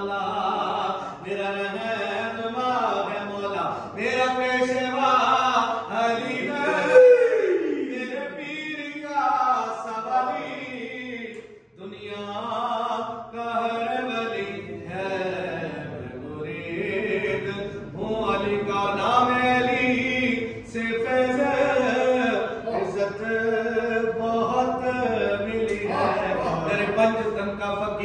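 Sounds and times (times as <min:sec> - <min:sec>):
devotional chanting: 0:00.0 - 0:28.0.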